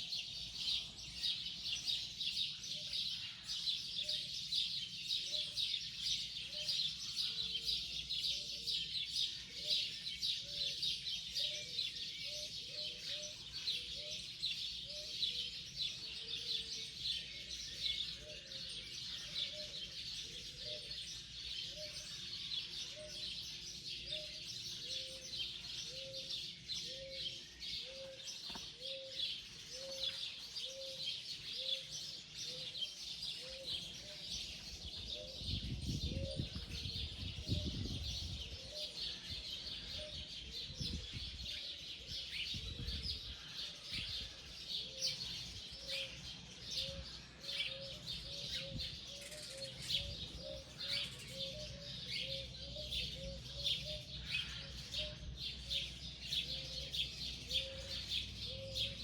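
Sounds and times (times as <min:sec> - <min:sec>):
birds chirping: 0:09.5 - 0:59.0.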